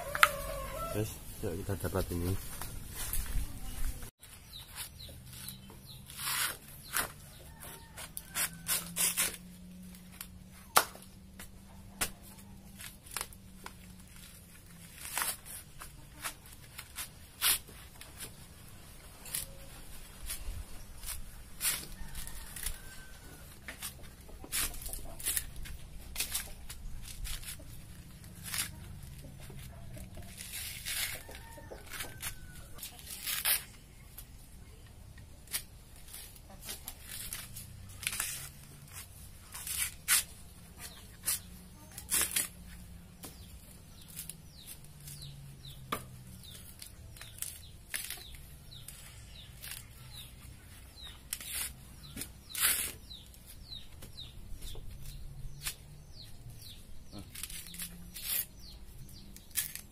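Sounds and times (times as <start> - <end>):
coconut husk being torn off: 4.7 - 18.4, 19.2 - 34.2, 35.4 - 50.3, 51.0 - 54.1, 56.6 - 59.9.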